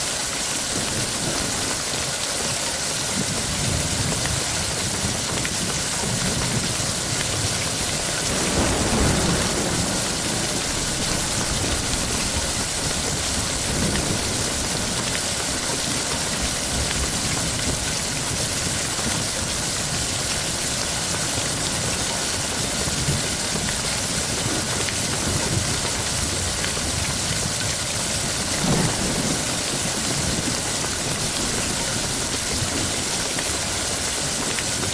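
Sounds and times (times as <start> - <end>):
heavy rain: 0.0 - 34.9
low rumble of thunder: 3.2 - 34.9.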